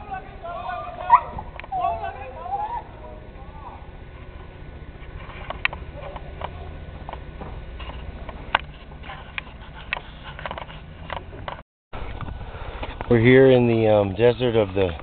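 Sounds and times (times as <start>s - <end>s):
suv engine rumbling: 0.0s - 15.0s.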